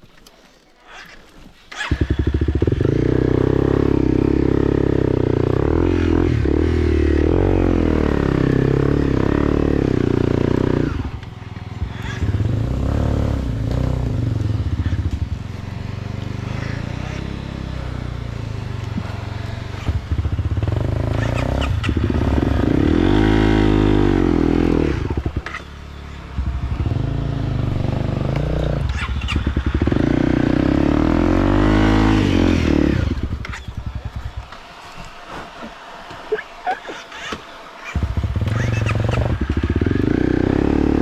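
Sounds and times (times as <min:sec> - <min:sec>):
motorcycle engine revving: 0:01.7 - 0:41.0.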